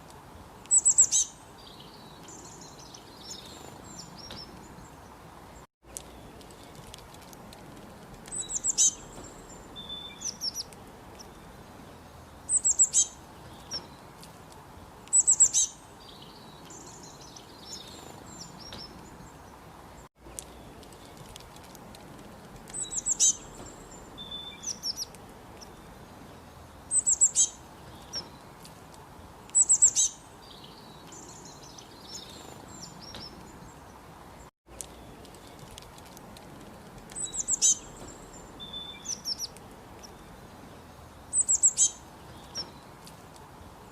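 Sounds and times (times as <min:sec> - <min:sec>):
faint steady hiss: 0:00.0 - 0:43.9
small birds chirping: 0:00.0 - 0:43.9.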